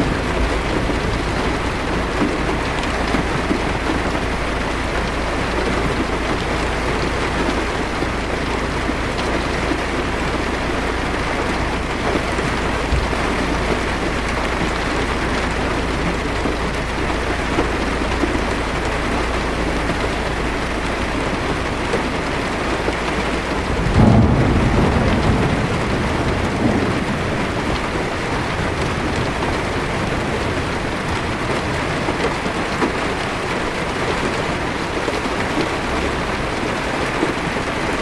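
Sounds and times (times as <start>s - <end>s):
heavy rain on car roof: 0.0s - 38.0s
low thunder rumble: 0.0s - 38.0s.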